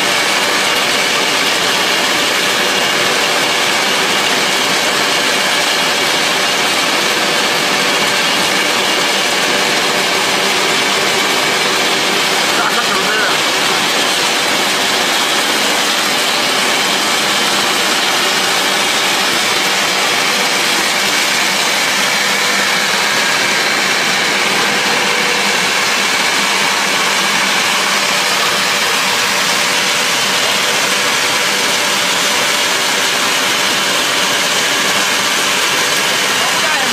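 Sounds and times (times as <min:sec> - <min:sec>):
machine whirring hiss: 0:00.0 - 0:36.9.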